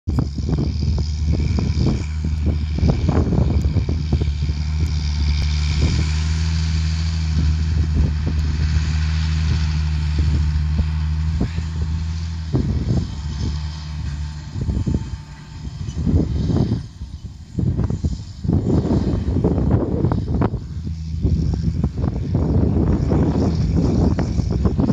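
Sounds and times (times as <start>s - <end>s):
tractor diesel engine droning: 0.0s - 24.9s
wind buffeting microphone: 0.1s - 24.9s.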